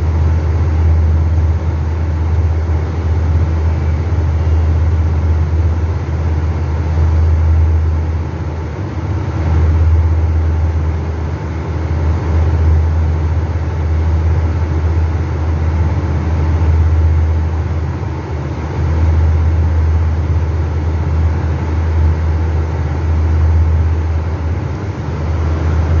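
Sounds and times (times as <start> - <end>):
chiller droning: 0.0 - 26.0
fan and machinery noise: 0.0 - 26.0.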